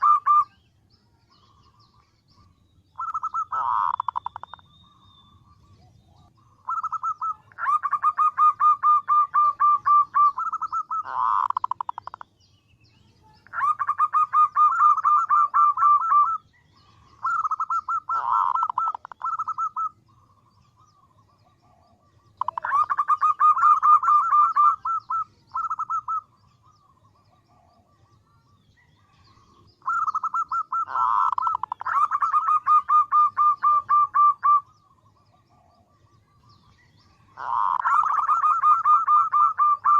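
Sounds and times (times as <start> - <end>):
dove cooing: 0.0 - 0.6, 2.4 - 12.2, 13.4 - 20.6, 21.2 - 28.2, 28.8 - 36.1, 37.2 - 39.9.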